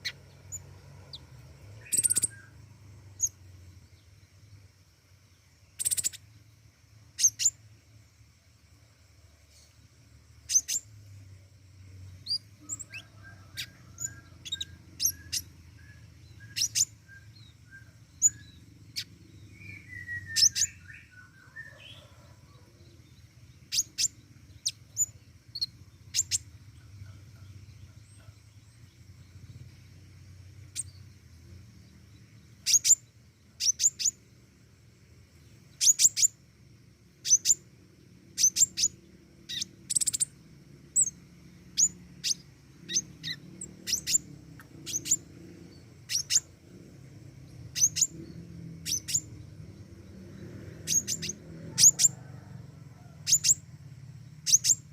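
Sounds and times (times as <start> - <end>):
faint low hum: 0.0 - 54.9
songbird high-pitched chirps: 0.0 - 54.9.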